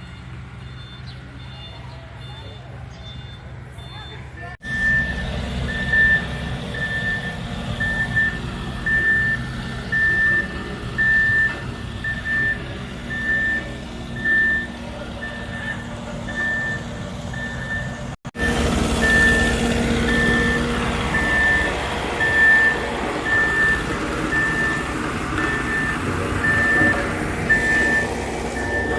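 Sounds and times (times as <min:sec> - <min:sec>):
diesel engine rumble: 0:00.0 - 0:28.9
reversing alarm beeping: 0:00.0 - 0:28.9.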